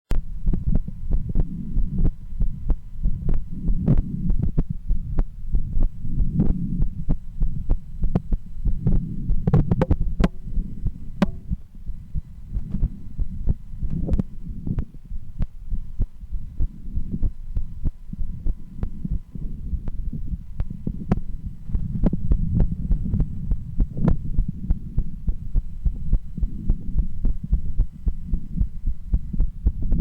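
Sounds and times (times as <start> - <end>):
heartbeat through stethoscope: 0.1 - 30.0.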